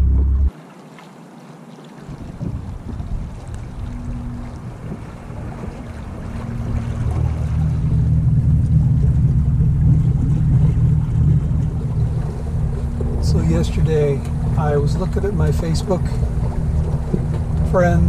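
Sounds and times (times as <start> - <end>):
boat motor rumbling: 0.0 - 0.5, 2.1 - 18.0.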